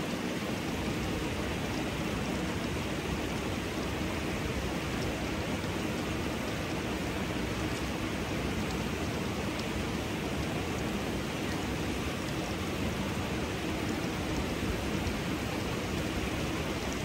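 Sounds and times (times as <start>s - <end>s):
faint drips and ticks: 0.0s - 17.0s.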